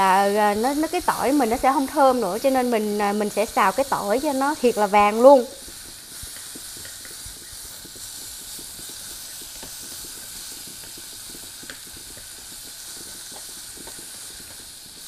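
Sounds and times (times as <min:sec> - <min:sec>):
leek sizzling in hot oil: 0:00.0 - 0:15.0.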